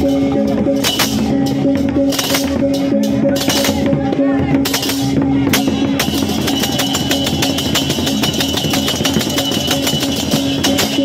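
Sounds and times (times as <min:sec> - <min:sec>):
metallic percussion beat: 0:00.0 - 0:11.0.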